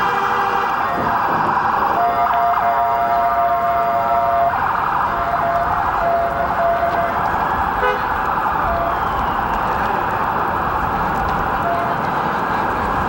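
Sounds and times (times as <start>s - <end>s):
emergency vehicle sirens: 0.0s - 13.0s.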